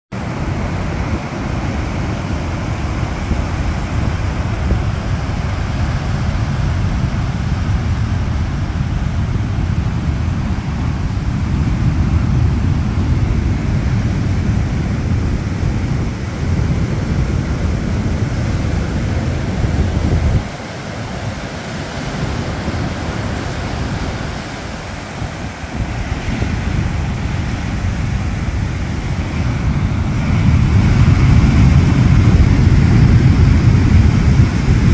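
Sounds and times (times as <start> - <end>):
surf washing over rocks: 0.1 - 34.9
wind buffeting microphone: 0.1 - 34.9.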